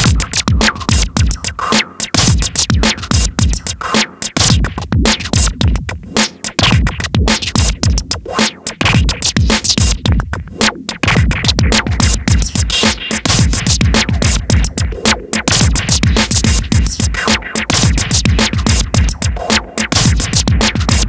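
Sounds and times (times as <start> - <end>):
electronic drum-machine beat: 0.0 - 21.0.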